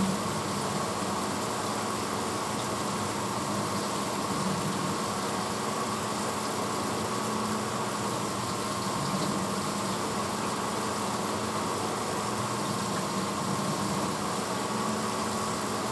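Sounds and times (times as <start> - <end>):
dishwasher running: 0.0 - 15.9.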